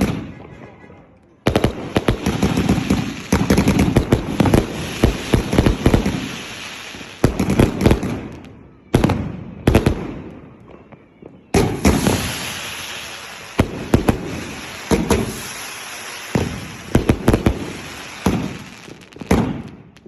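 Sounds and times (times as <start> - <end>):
firework shots and bursts: 0.0 - 0.5, 1.5 - 10.6, 11.5 - 20.0
firework crackle: 1.4 - 20.0.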